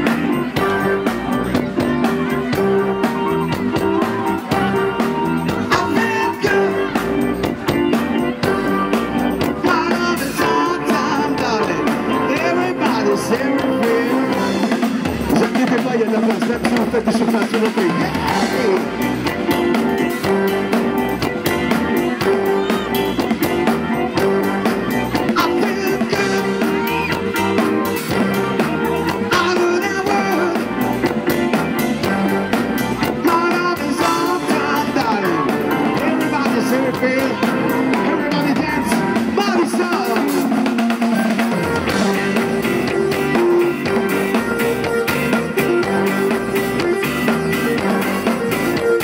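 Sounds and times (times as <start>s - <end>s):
person singing: 0.0s - 20.8s, 21.7s - 40.9s
bass guitar: 0.0s - 49.0s
drum kit: 0.0s - 49.0s
electric guitars: 0.0s - 49.0s
keyboard: 0.0s - 49.0s.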